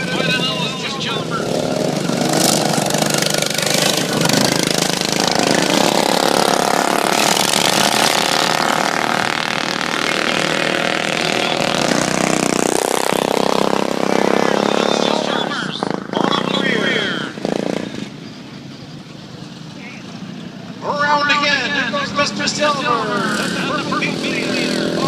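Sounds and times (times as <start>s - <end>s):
lawn mower engines droning: 0.0s - 25.0s.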